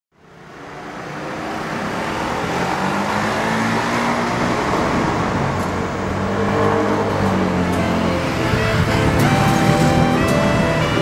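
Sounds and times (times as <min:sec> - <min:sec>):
city road traffic: 0:00.1 - 0:11.0.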